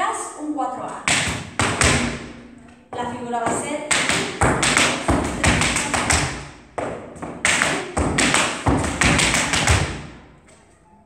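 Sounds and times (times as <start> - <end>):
tap shoes striking floor: 0.8 - 10.6.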